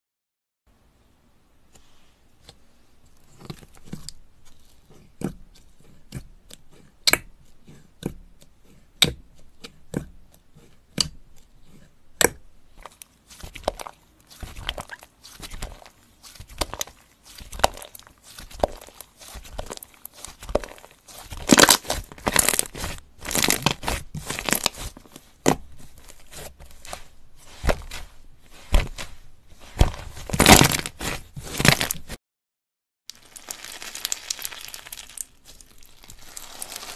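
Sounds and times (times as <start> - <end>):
slime squishing with sticky pops: 2.4 - 32.2, 33.1 - 36.9.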